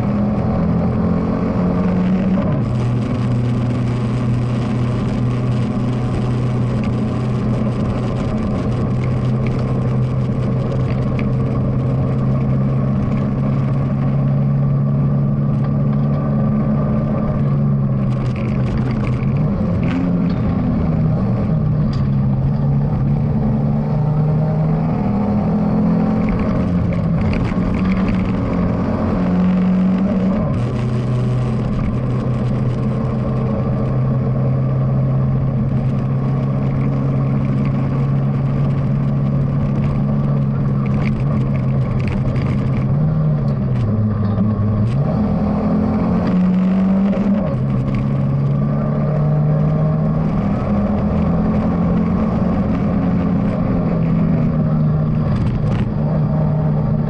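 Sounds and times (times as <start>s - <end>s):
car engine pulling hard: 0.0s - 57.0s.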